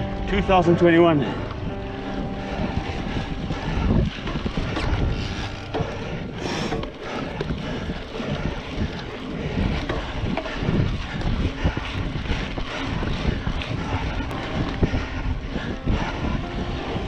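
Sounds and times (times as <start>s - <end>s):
tyres rumbling on trail: 0.0s - 17.0s
wind buffeting microphone: 0.0s - 17.0s.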